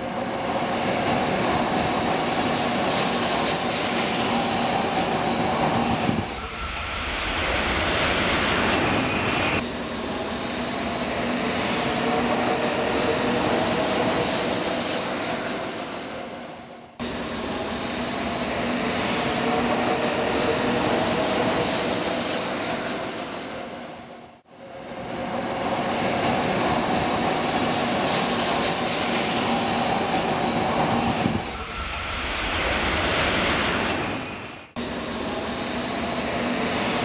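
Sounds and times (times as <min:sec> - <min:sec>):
train rolling rail noise: 0:00.0 - 0:37.0.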